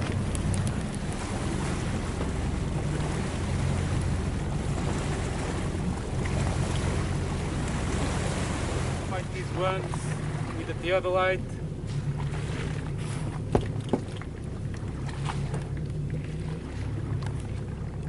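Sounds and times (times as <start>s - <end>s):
boat engine humming: 0.0s - 18.0s
water washing: 0.0s - 18.0s.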